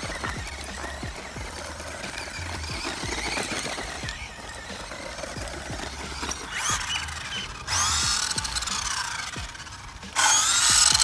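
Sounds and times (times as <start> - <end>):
gravel crunching under tyres: 0.0 - 11.0
high electric motor whine: 0.0 - 11.0.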